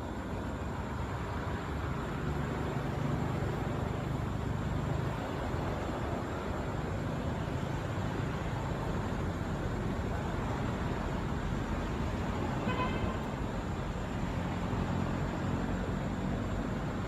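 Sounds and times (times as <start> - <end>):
vehicle noise: 0.0 - 17.0.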